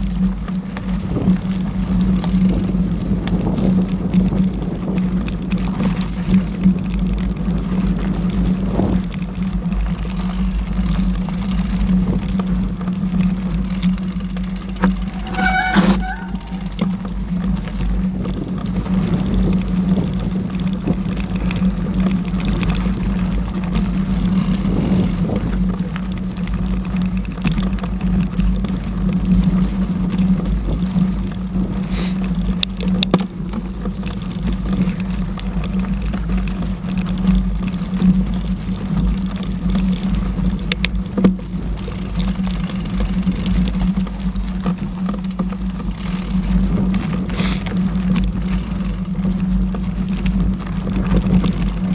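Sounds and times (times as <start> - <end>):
bike clicks and rattles: 0.0 - 51.9
tyres rumbling on trail: 0.0 - 51.9.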